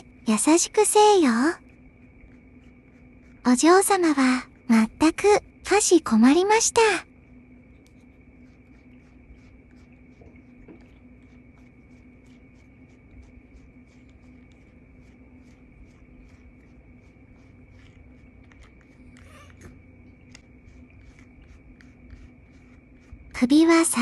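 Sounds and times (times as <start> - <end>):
comb scratching through fur: 0.0 - 6.9, 7.7 - 24.0
faint steady hum: 0.0 - 24.0.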